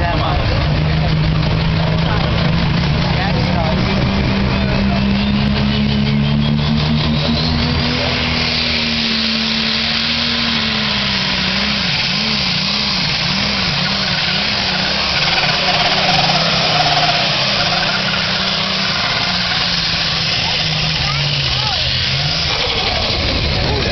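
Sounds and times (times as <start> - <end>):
diesel tractor engine under load: 0.0 - 23.9.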